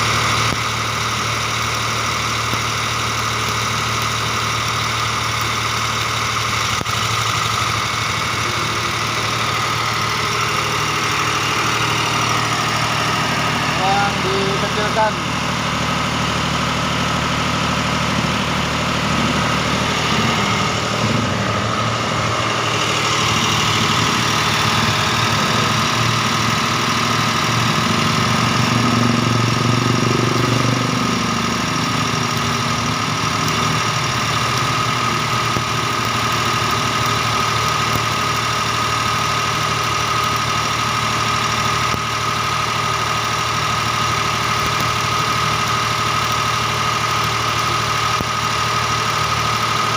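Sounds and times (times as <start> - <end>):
steady high whine: 0.0 - 49.9
welder engine running: 0.0 - 49.9.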